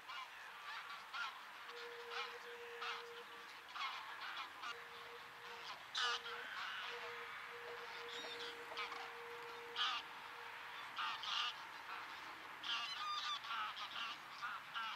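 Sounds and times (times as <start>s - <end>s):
geese honking: 0.0s - 14.9s.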